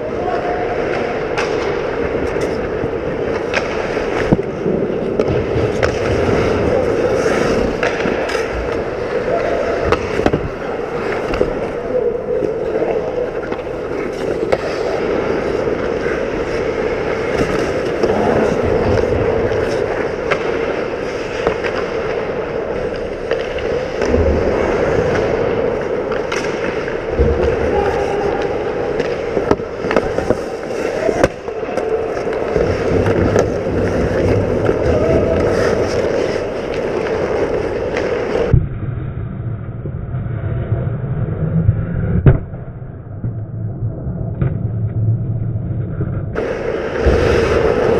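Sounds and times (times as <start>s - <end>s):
skates scraping on ice: 0.0s - 38.6s, 45.0s - 47.9s
hockey sticks and puck clacking: 0.1s - 38.6s, 45.7s - 47.9s.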